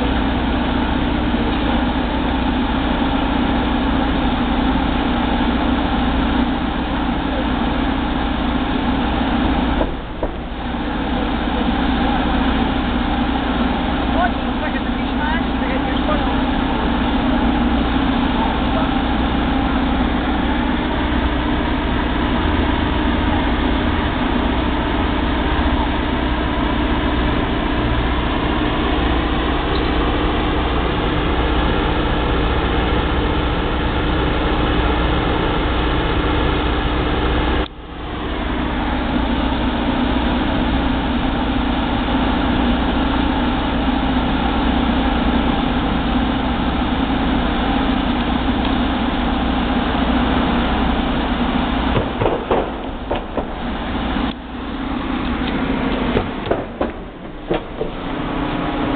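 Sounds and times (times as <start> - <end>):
van engine idling: 0.0 - 58.9.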